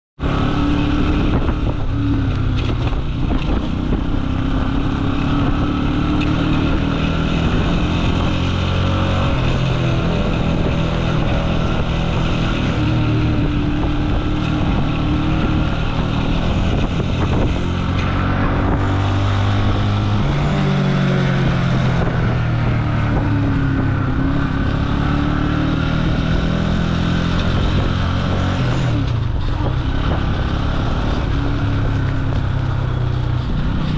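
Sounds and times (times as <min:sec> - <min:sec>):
motorcycle engine revving: 0:00.2 - 0:33.9
wind on microphone: 0:00.2 - 0:33.9.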